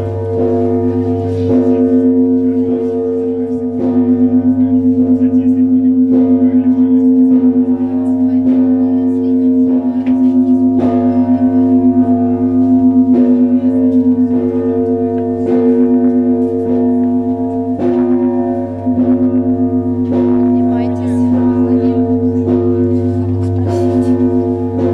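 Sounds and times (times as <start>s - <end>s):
church bells ringing: 0.0s - 24.9s
deep bell hum: 0.0s - 24.9s.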